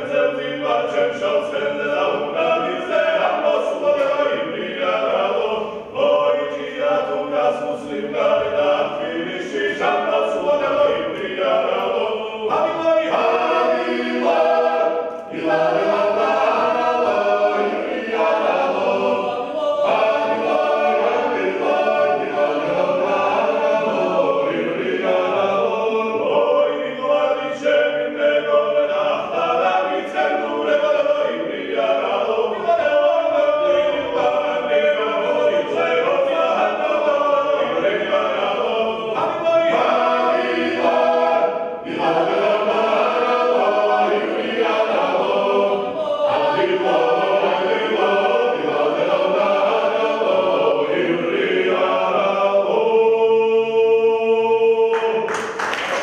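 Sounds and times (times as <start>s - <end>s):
choir singing folk song: 0.0s - 56.0s.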